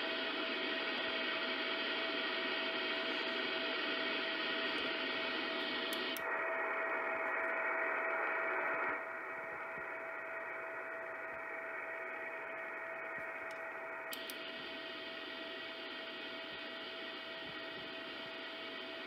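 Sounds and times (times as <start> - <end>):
radio receiver hiss: 0.0 - 19.0.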